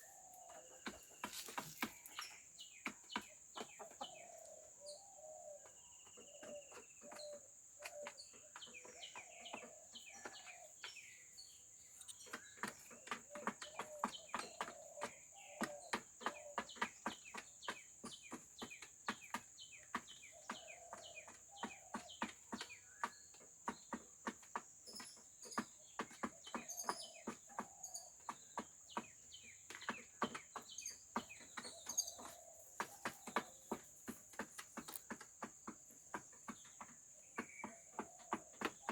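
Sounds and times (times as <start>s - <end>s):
chickens pecking with sharp taps: 0.0s - 38.9s.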